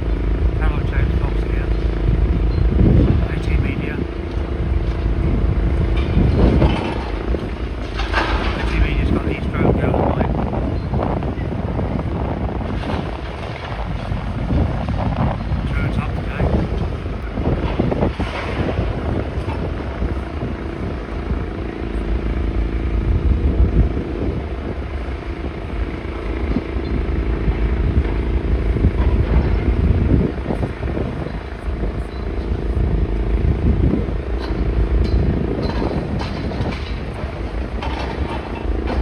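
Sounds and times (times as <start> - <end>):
heavy machinery engine rumbling: 0.0 - 39.0.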